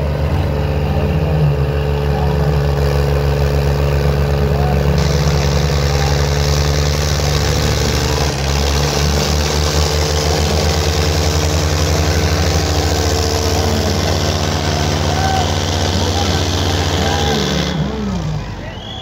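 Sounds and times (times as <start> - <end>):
tractor diesel engines droning: 0.0 - 19.0.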